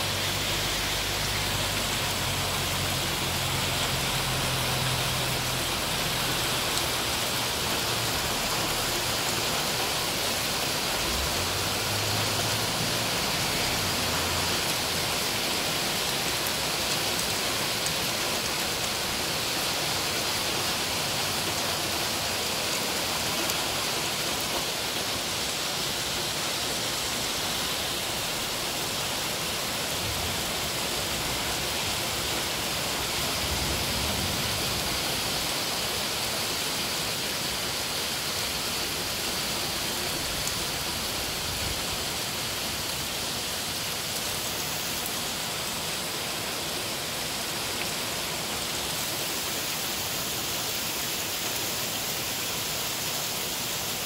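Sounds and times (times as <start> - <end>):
heavy rain and hail pelting: 0.0 - 54.0.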